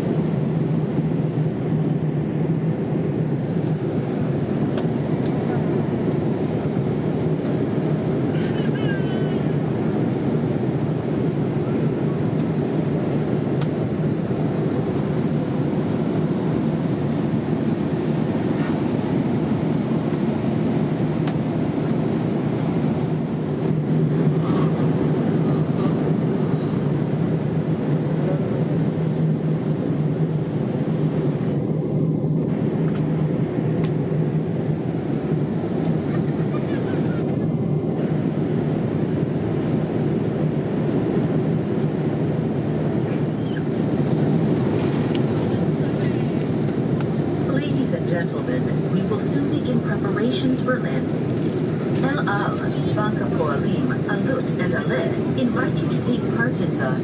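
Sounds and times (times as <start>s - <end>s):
airliner cabin engine roar: 0.0s - 57.0s
steady low hum: 0.0s - 57.0s.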